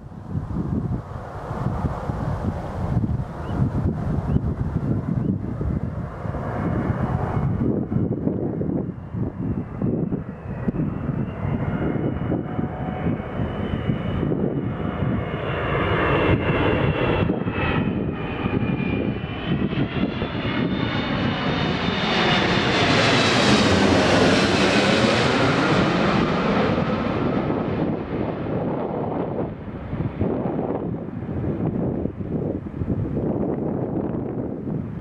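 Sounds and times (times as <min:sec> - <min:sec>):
jet engines whining and roaring: 0:00.0 - 0:35.0
wind rumbling on microphone: 0:00.0 - 0:35.0.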